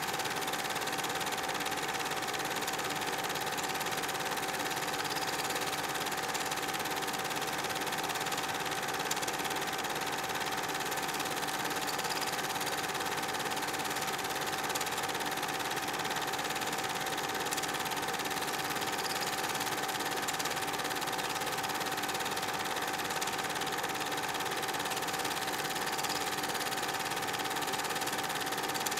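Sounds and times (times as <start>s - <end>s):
film projector whirring: 0.0s - 28.9s.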